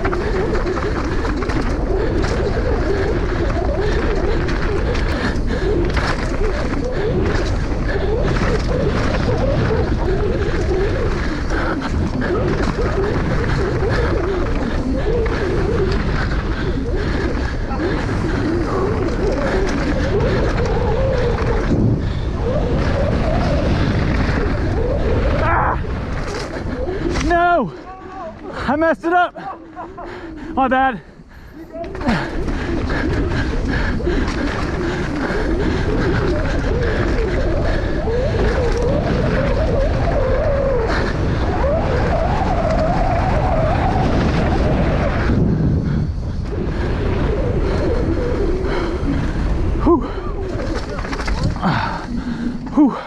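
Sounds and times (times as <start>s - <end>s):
mountain bike rumbling on dirt trail: 0.0s - 53.0s
wind rushing over microphone: 0.0s - 53.0s.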